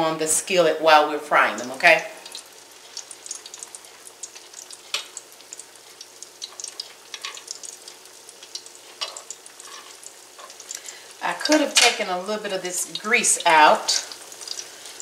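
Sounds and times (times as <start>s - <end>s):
patties sizzling in oil: 0.0s - 15.0s.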